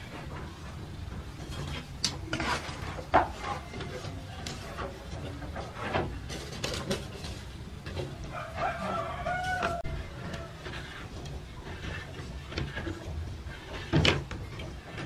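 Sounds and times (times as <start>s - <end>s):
metal tray scraping and knocking: 0.0s - 15.0s.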